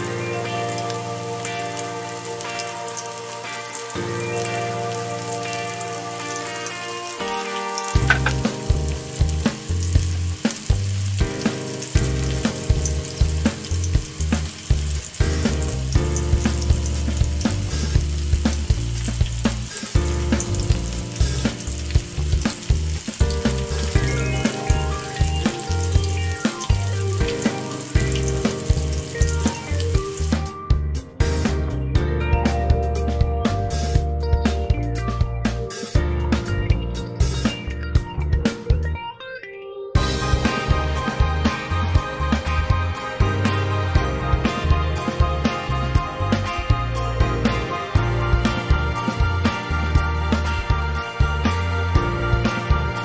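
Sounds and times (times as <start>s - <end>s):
chicken deep-frying in oil: 0.0s - 31.7s, 32.4s - 38.9s, 40.0s - 53.0s
background music with beat: 0.0s - 53.0s.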